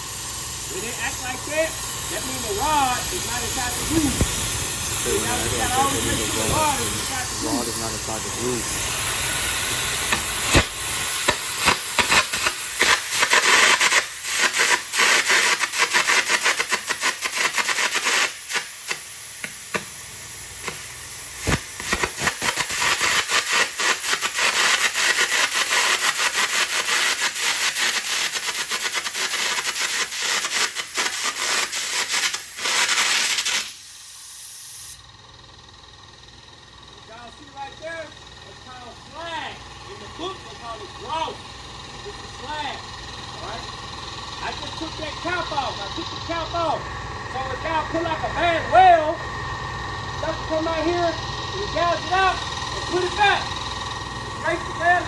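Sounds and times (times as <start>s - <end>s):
arc gouging hiss and crackles: 0.0s - 35.1s, 37.1s - 55.0s.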